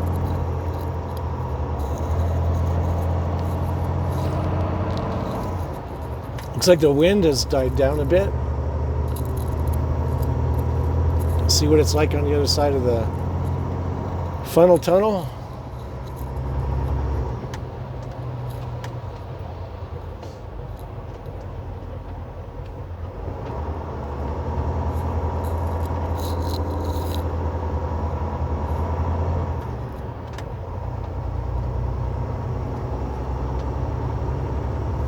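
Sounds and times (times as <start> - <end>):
road noise: 0.0 - 35.0
truck diesel engine droning: 0.0 - 35.0.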